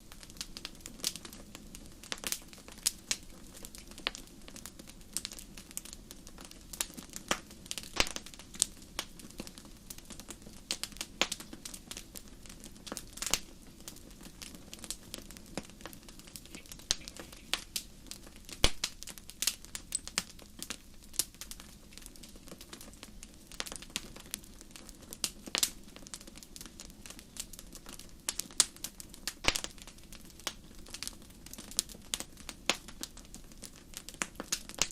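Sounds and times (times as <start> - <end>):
campfire crackling: 0.0 - 34.9.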